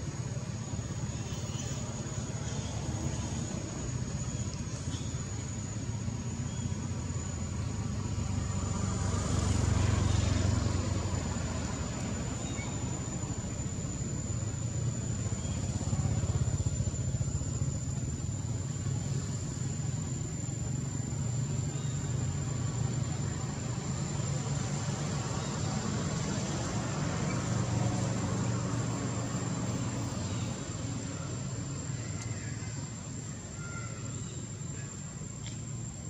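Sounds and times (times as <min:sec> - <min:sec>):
distant traffic rumble: 0:00.0 - 0:36.0
thin high whine: 0:00.0 - 0:36.0.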